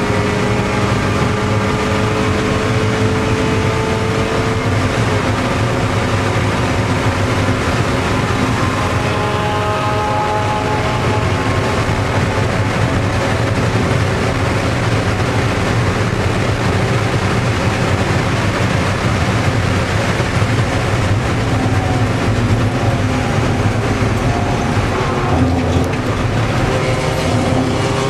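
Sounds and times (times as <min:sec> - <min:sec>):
race car engine high revs: 0:00.0 - 0:28.0
road and wind noise: 0:00.0 - 0:28.0.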